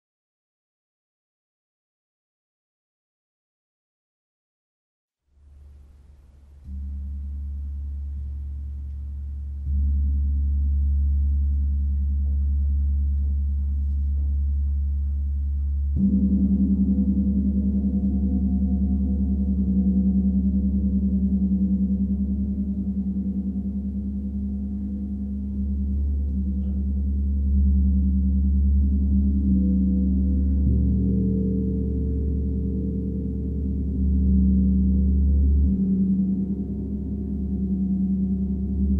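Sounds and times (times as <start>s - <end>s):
deep gong tones: 6.6s - 38.9s.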